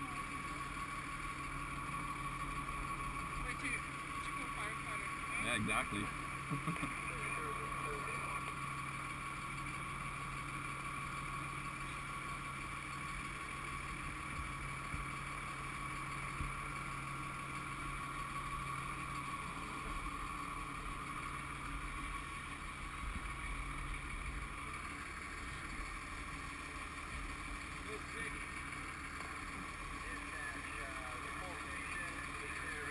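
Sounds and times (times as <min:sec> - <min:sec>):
fire truck engine drone: 0:00.0 - 0:32.9.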